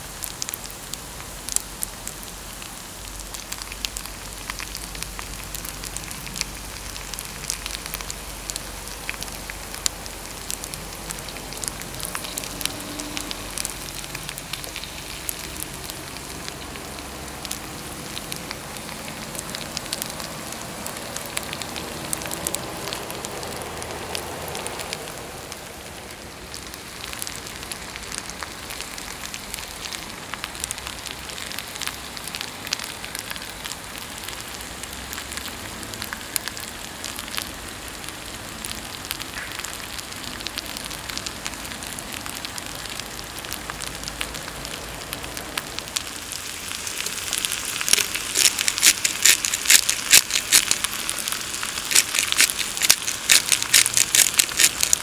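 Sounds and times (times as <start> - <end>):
rice sizzling in a pan: 0.0 - 55.0.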